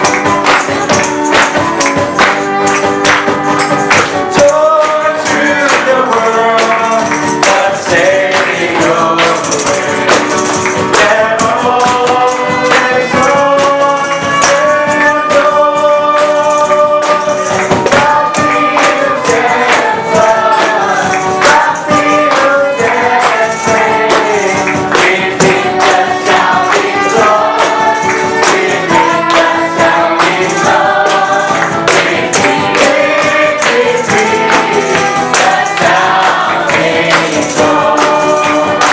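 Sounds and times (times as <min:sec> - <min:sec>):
music accompaniment: 0:00.0 - 0:38.9
tambourine shaking: 0:00.0 - 0:38.9
choir singing: 0:04.2 - 0:38.9.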